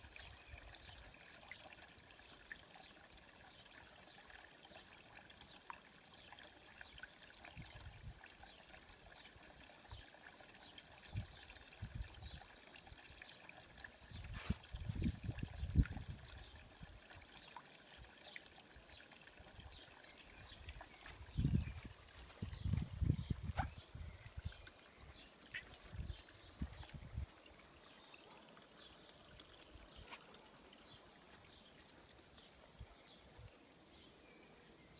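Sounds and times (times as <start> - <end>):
water trickling into stone trough: 0.0 - 34.3
small birds chirping: 0.0 - 34.9.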